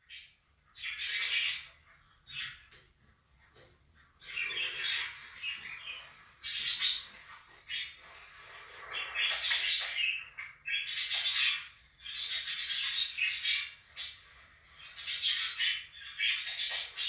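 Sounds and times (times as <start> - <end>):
budgerigar flock chirping: 0.1 - 2.7, 4.2 - 8.0, 8.9 - 17.0.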